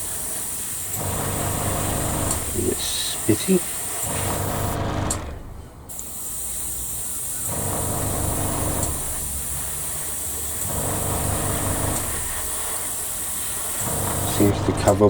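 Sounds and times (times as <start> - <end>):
airbrush air hiss: 0.0 - 4.8, 5.9 - 15.0
air compressor humming: 0.0 - 15.0.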